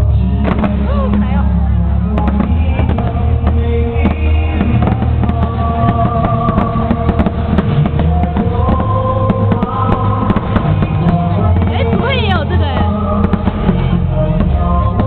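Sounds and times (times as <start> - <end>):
loud music with bass: 0.0 - 15.0
firework pops and crackles: 0.4 - 1.4, 2.2 - 15.0.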